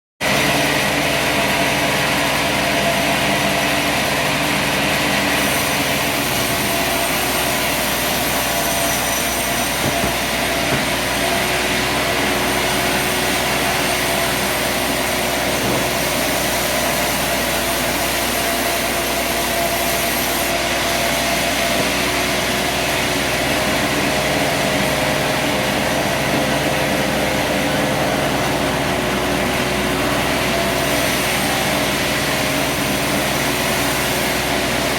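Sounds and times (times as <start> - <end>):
sawmill machine humming: 0.2 - 34.9.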